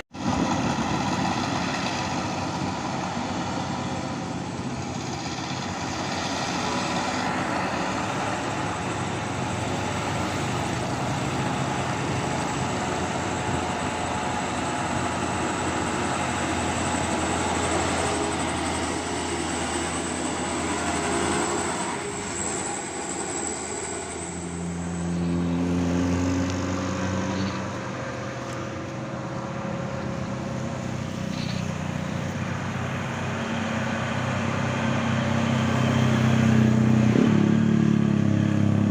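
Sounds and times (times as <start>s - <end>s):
diesel truck engines straining: 0.0s - 38.9s
road traffic: 0.0s - 38.9s.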